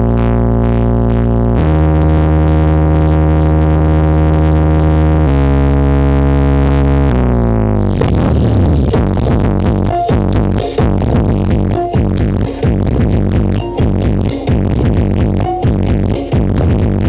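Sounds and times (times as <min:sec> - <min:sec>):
heavy deep bass note: 0:00.0 - 0:17.0
synthesizer chords: 0:00.0 - 0:17.0.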